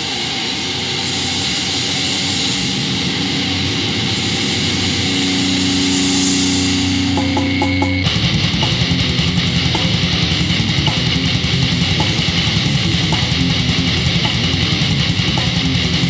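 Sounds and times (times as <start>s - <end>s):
low sustained tones: 0.0s - 14.8s
rushing roar: 0.0s - 16.0s.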